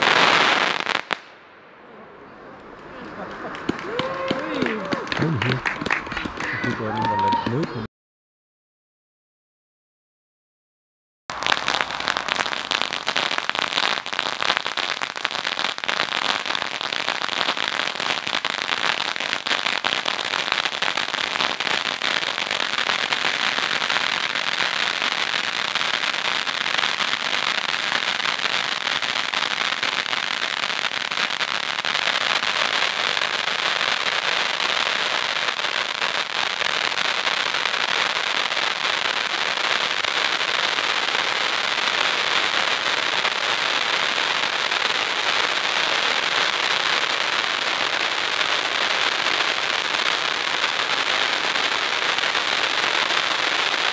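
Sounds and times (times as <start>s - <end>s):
firework fountain hissing: 0.0s - 1.5s, 2.7s - 7.6s, 11.3s - 53.9s
firework crackling: 0.0s - 1.8s, 2.4s - 7.7s, 11.3s - 53.9s.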